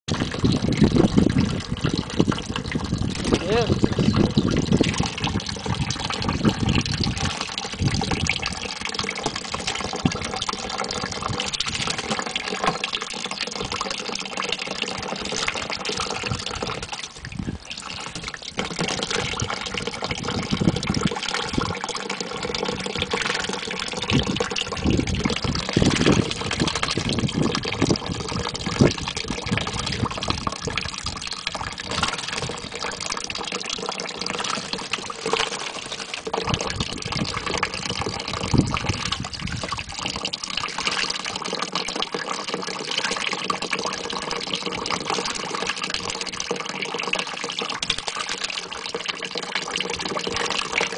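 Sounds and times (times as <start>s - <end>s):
water stream pouring into plastic tub: 0.1s - 50.9s.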